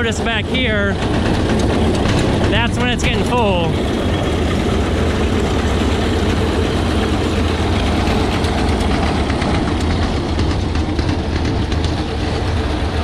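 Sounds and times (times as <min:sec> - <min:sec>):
baler mechanism rattling: 0:00.0 - 0:13.0
tractor engine under load: 0:00.0 - 0:13.0.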